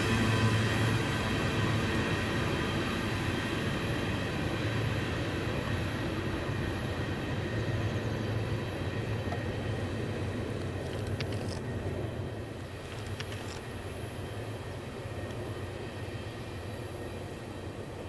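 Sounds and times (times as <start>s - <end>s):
train rumbling past on rails: 0.0s - 18.0s.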